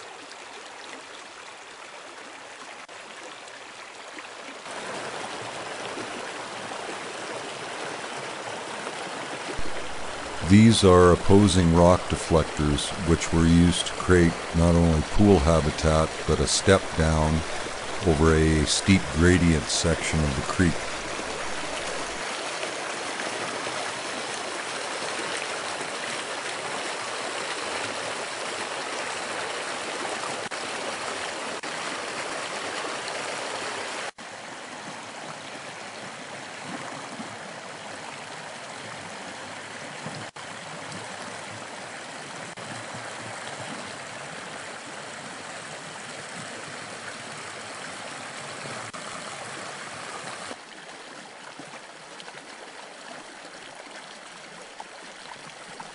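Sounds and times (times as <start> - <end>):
creek rushing over rocks: 0.0 - 55.9.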